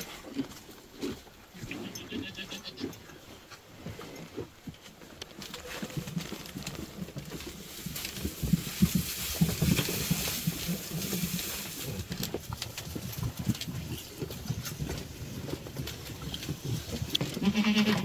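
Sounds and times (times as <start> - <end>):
farm animals moving: 0.0 - 18.0.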